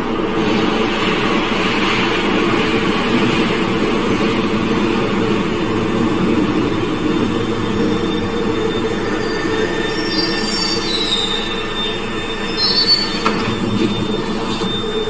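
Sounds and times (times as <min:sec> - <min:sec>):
subway train rumbling on rails: 0:00.0 - 0:15.0
high wheel squeal: 0:01.1 - 0:15.0.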